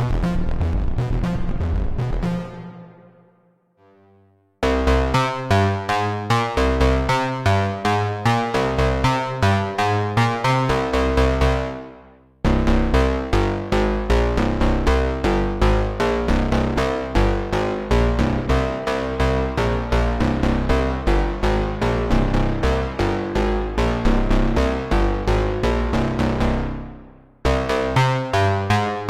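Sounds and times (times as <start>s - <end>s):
synthesizer plucky bass run: 0.0s - 3.2s, 4.6s - 29.0s.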